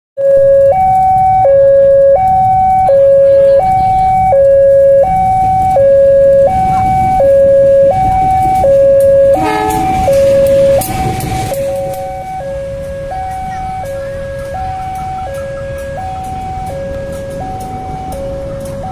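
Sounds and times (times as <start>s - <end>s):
level crossing two-tone alarm: 0.2s - 18.9s
motorbikes idling: 1.0s - 18.9s.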